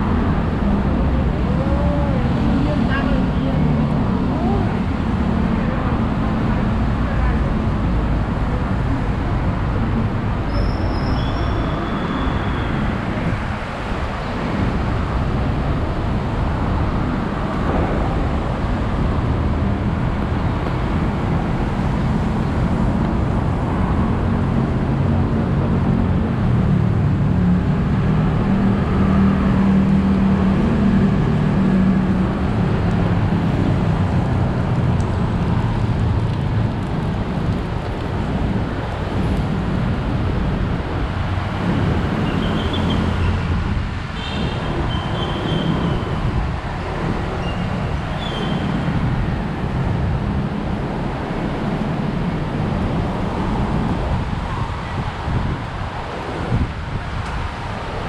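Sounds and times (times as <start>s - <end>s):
cars passing with tyre hiss: 0.0s - 58.0s.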